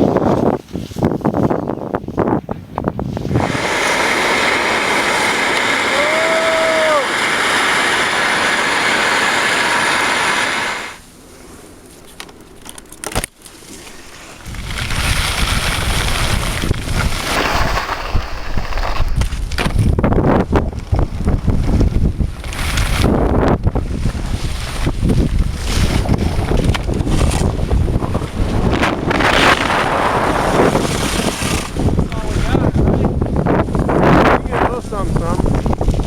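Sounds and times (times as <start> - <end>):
wind rumbling on microphone: 0.0 - 11.0, 14.2 - 36.0
skis scraping over snow: 3.0 - 12.2, 13.4 - 36.0.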